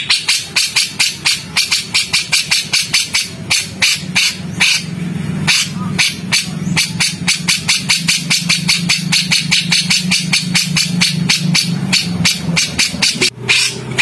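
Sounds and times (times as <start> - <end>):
songbird chattering calls: 0.0 - 14.0
steady low hum: 0.0 - 14.0.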